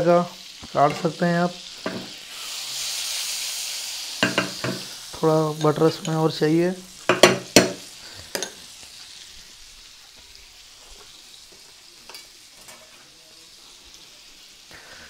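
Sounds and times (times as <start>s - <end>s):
butter sizzling in a pan: 0.0s - 15.0s.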